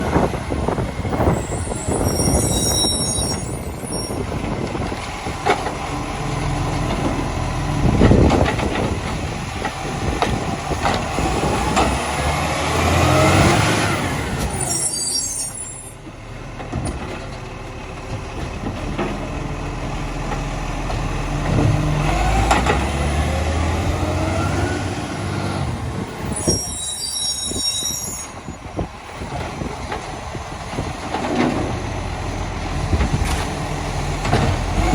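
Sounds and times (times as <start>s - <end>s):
diesel engine revving: 0.0s - 14.8s, 16.0s - 26.8s, 28.7s - 34.9s.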